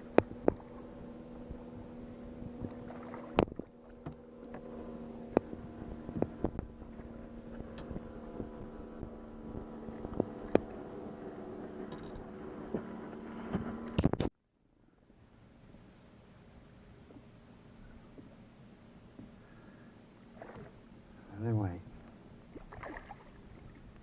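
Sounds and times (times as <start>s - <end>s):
boat motor humming: 0.0s - 14.2s, 15.4s - 24.0s.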